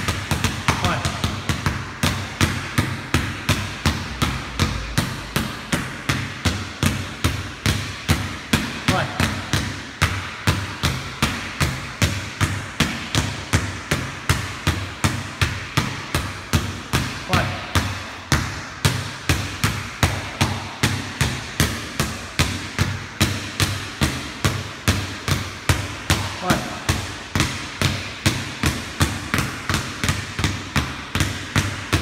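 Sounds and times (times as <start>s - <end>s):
basketballs bouncing on wooden floor: 0.0s - 32.0s.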